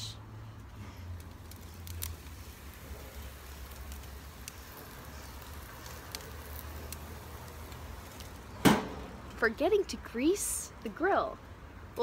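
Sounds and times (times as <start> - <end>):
faint crackles: 0.0 - 11.1
fish sizzling on grill: 0.0 - 12.0.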